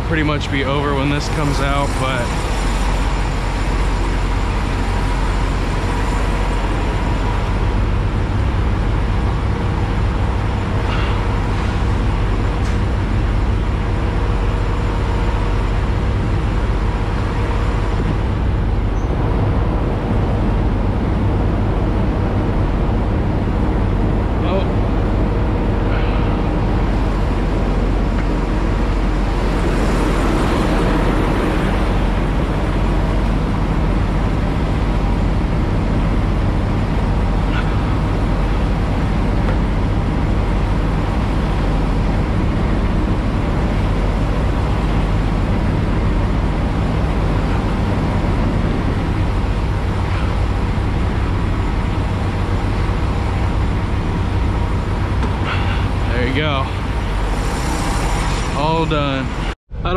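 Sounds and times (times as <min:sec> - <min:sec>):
truck diesel engine humming: 0:00.0 - 0:58.0.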